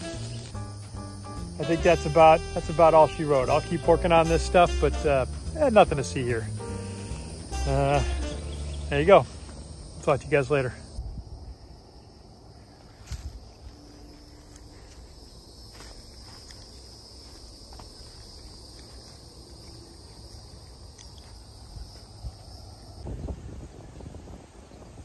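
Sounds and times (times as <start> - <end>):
high-pitched insect trill: 0.0 - 23.0.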